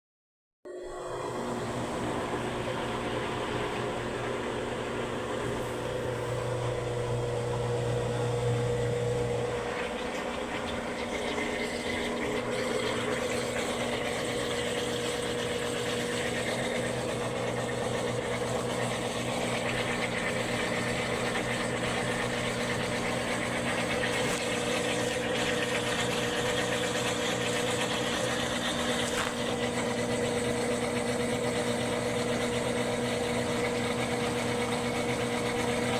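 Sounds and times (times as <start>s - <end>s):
washing machine hum: 0.7s - 35.9s
washing machine grinding: 0.9s - 35.9s.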